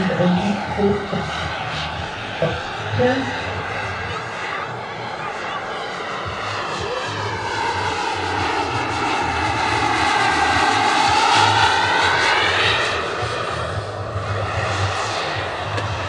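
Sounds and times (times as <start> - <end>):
helicopter rotor noise: 0.0 - 16.0
model helicopter turbine whine: 0.0 - 16.0.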